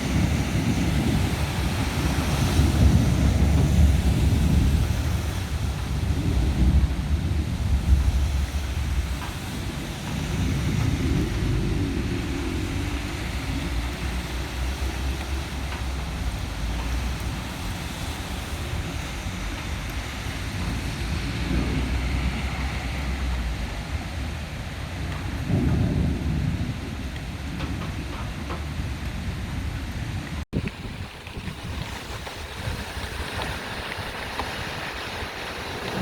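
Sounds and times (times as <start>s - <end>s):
low thunder rumble: 0.0s - 36.0s
rain hiss: 0.0s - 36.0s
wind: 0.0s - 36.0s.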